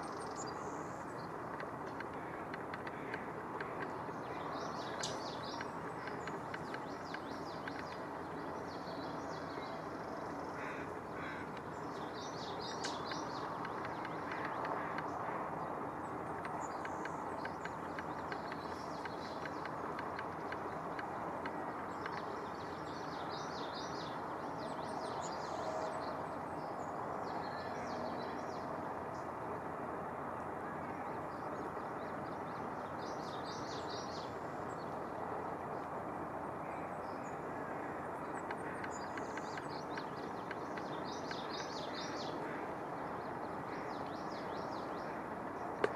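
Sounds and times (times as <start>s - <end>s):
outdoor background hum: 0.0s - 45.9s
songbirds chirping: 0.0s - 45.9s.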